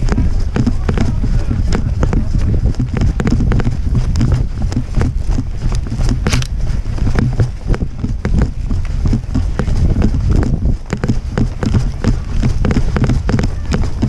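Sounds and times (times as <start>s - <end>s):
gear rattling: 0.0s - 14.0s
running footsteps on dry grass: 0.0s - 14.0s
wind on microphone: 0.0s - 14.0s.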